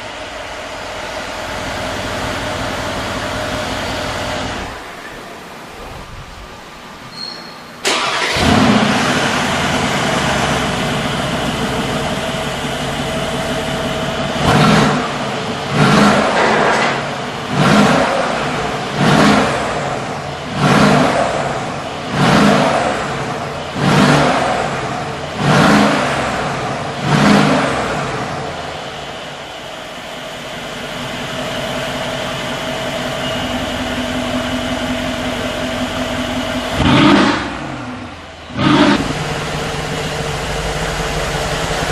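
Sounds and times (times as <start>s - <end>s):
engine exhaust idling and revving: 0.0s - 4.9s, 8.0s - 41.9s.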